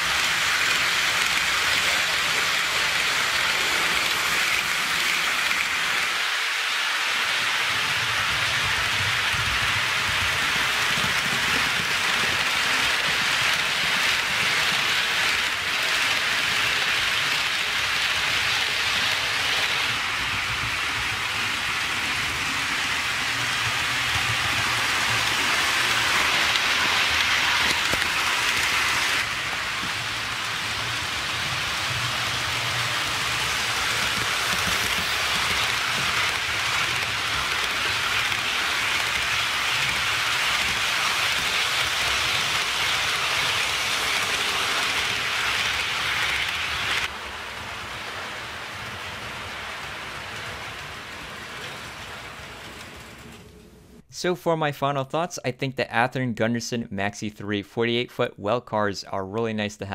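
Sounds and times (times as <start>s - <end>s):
model train wheels hissing on rails: 0.0s - 54.0s.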